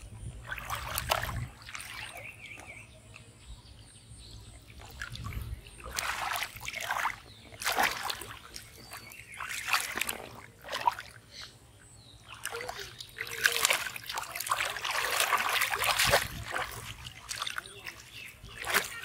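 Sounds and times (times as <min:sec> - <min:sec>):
splashing in shallow muddy water: 0:00.0 - 0:19.0.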